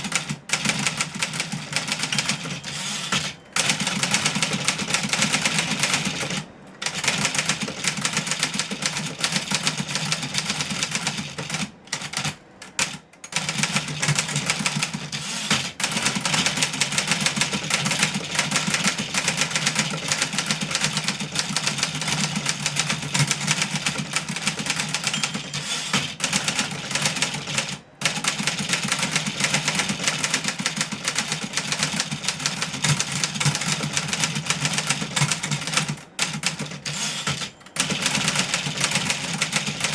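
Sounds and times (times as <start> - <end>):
typewriter clattering: 0.0 - 39.9.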